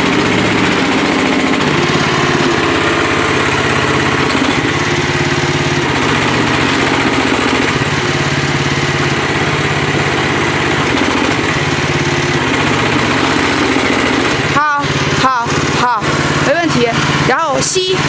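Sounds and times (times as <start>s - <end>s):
small excavator engine running: 0.0s - 18.0s.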